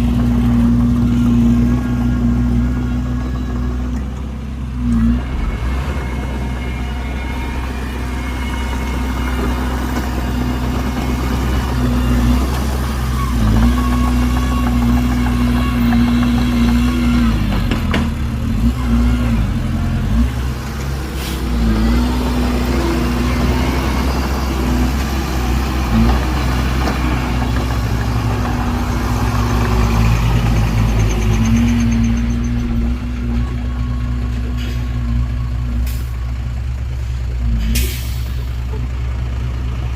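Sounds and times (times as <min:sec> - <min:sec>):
diesel machinery engine: 0:00.0 - 0:39.9.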